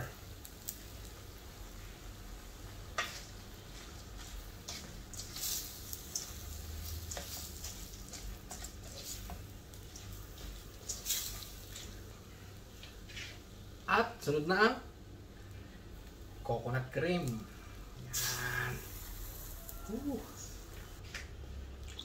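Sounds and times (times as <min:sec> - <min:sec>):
faint sizzle from pan: 0:00.0 - 0:22.0.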